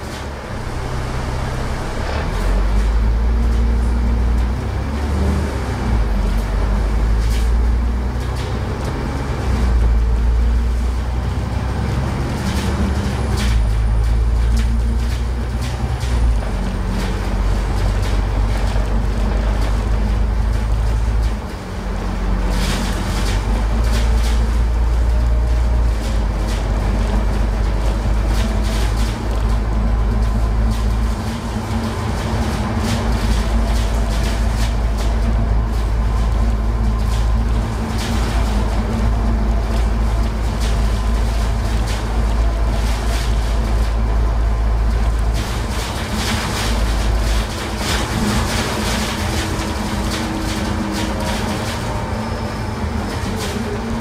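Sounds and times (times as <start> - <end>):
bus diesel engine drone: 0.0 - 54.0
road noise: 0.0 - 54.0.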